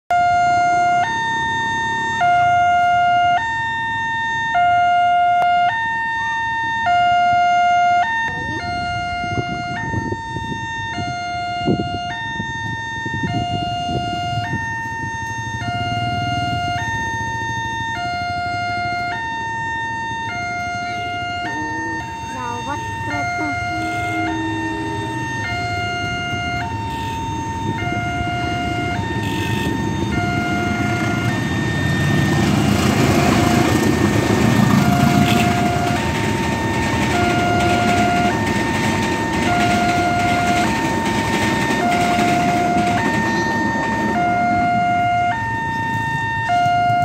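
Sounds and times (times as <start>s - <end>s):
level crossing two-tone alarm: 0.1s - 47.0s.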